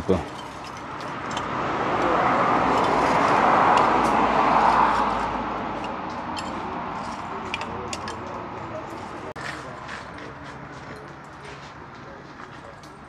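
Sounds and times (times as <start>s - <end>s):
road vehicle passing by: 0.0s - 13.0s.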